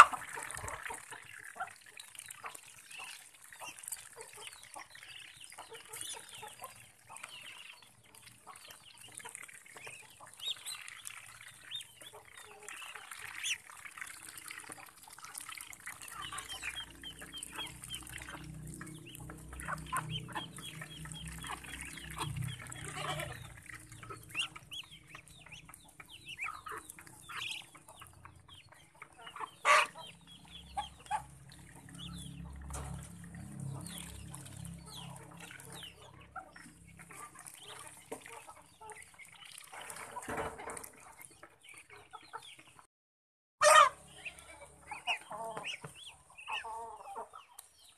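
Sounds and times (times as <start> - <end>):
ducks dabbling in water: 0.0 - 42.8
chickens clucking: 0.0 - 42.9, 43.6 - 47.9.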